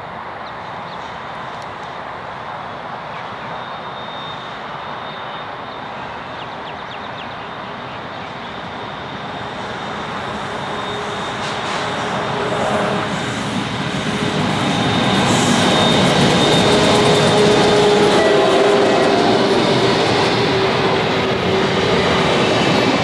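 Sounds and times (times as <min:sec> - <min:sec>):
diesel locomotive engine rumble: 0:00.1 - 0:23.0.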